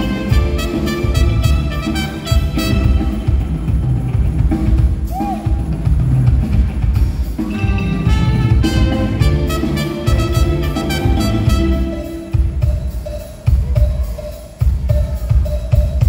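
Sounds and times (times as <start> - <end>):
drum kit and bass groove: 0.0 - 16.0
live band playing: 0.0 - 16.0.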